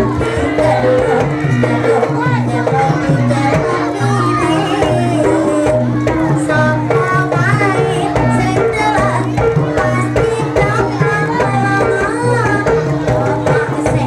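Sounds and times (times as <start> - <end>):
wavering pitched melody: 0.0 - 11.5
hand drums beating: 0.0 - 14.0.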